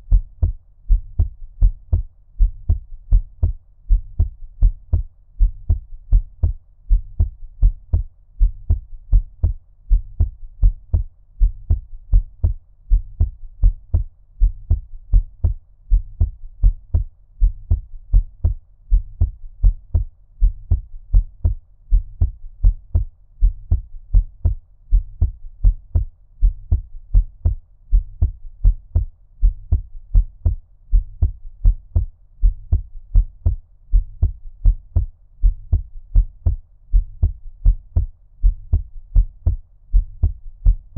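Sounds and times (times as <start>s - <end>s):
muffled heartbeat thumps: 0.0s - 40.9s.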